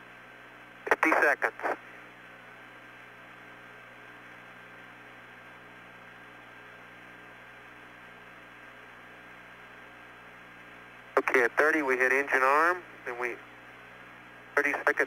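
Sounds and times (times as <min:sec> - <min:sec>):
radio hum and hiss: 0:00.0 - 0:15.0.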